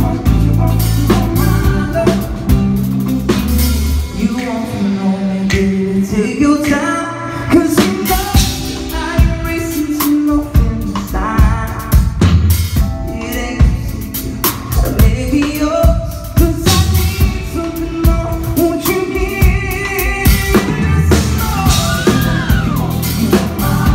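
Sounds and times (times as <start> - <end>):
person singing: 0.0 - 12.3, 13.0 - 23.9
live band playing: 0.0 - 23.9.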